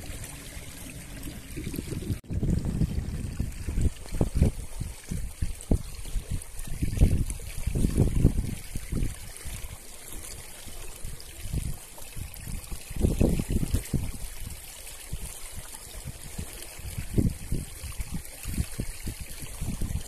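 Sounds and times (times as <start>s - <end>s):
water lapping against boat hull: 0.0s - 20.0s
wind buffeting microphone: 0.0s - 20.0s.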